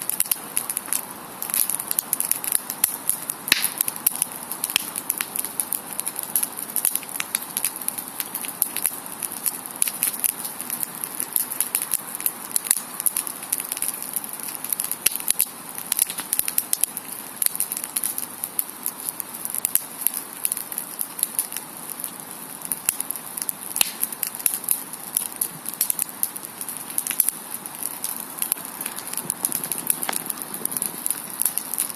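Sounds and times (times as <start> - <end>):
campfire crackling and popping: 0.0 - 31.9.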